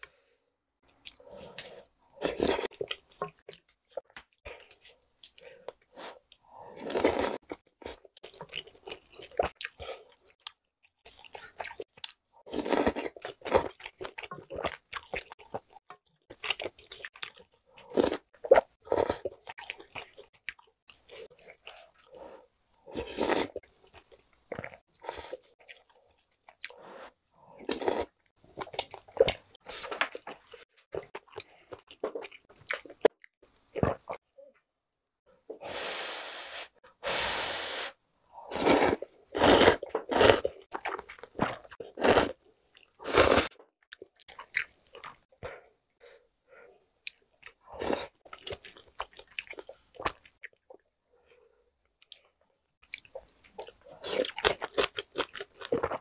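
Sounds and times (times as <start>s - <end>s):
wet chewing of noodles: 0.9s - 34.2s, 38.5s - 46.2s, 47.0s - 56.0s.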